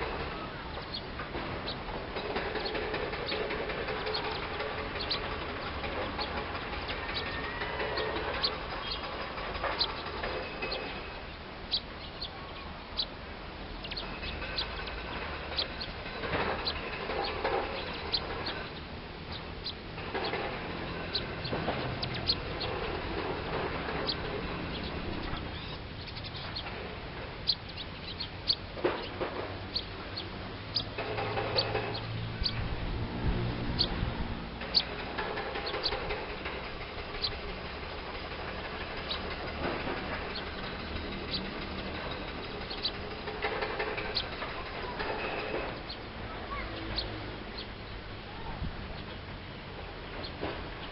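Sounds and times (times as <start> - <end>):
lower repeated bird calls: 0.0 - 32.7, 34.6 - 50.9
birds chirping: 0.0 - 50.9.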